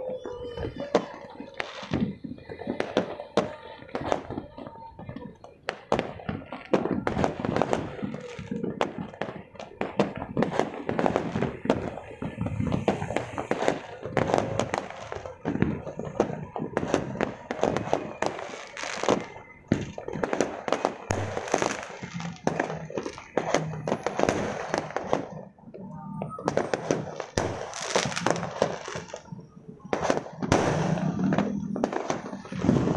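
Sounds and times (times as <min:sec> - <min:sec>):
fireworks bangs and crackles: 0:00.0 - 0:32.9.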